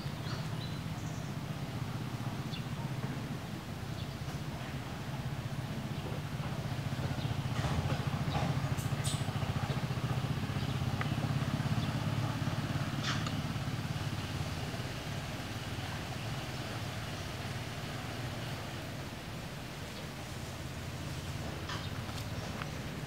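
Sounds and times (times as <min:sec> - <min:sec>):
low motor rumble: 0:00.0 - 0:23.0.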